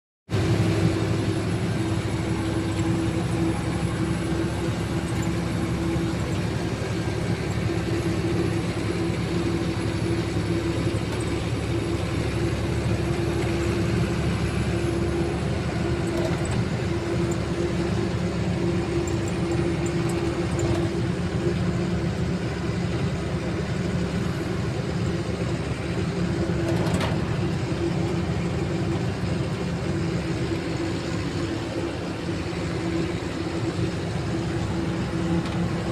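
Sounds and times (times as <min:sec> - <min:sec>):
truck engine running: 0:00.3 - 0:35.9.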